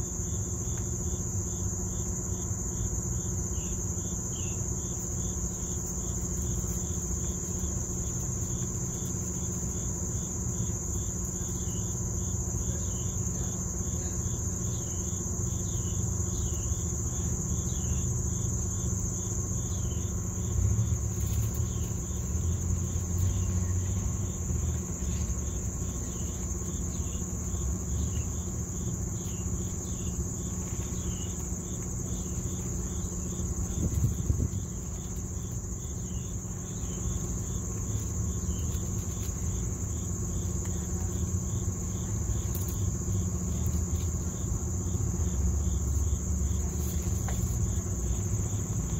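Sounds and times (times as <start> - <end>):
insects droning high-pitched: 0.0 - 48.9
low steady rumble: 0.0 - 48.9
short insect chirps: 0.3 - 48.9.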